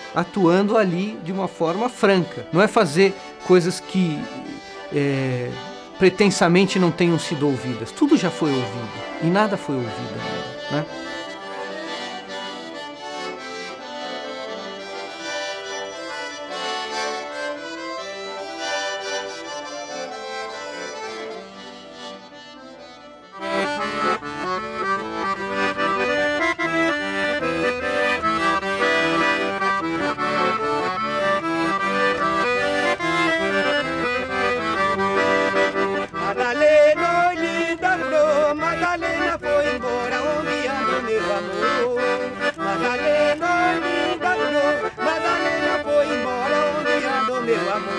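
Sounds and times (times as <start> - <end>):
accordion music: 0.0 - 47.9.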